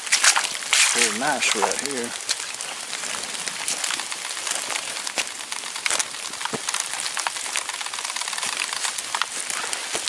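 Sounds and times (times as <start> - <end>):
footsteps through wet leaves: 0.0 - 10.0
rain on dead leaves: 0.0 - 10.0.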